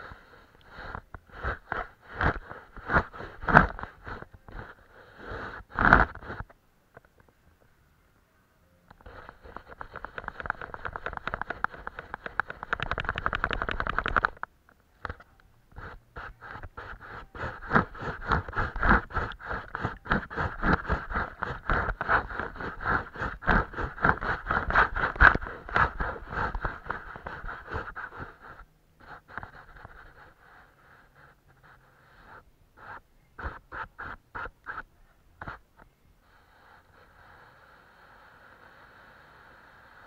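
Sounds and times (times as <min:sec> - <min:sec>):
paintbrush scratching on paper: 0:00.0 - 0:06.4, 0:09.0 - 0:14.4, 0:15.7 - 0:35.6, 0:36.2 - 0:38.2
faint steady hiss: 0:00.0 - 0:40.0.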